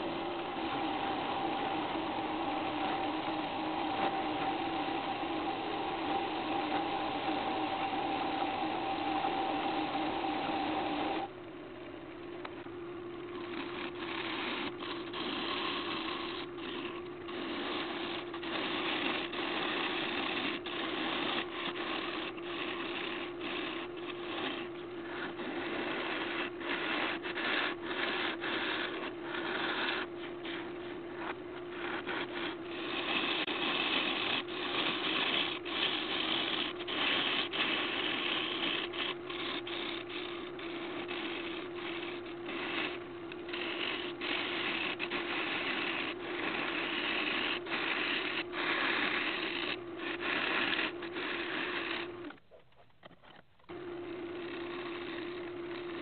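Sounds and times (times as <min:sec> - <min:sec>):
lathe motor hum: 0:00.0 - 0:52.4, 0:53.7 - 0:56.0
turning tool cutting spinning wood: 0:00.0 - 0:56.0.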